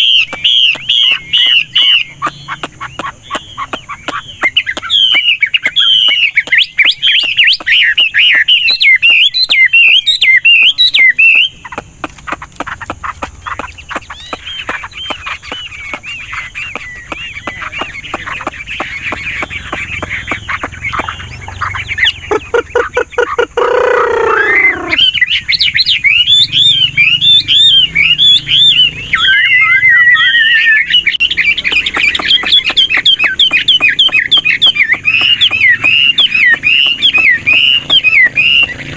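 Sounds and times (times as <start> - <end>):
bird warbling song: 0.0 - 38.9
lower falling bird call: 3.0 - 38.9.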